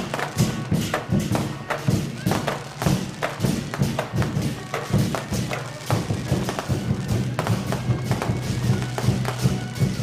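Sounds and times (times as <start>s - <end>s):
barrel drums beaten: 0.0s - 10.0s.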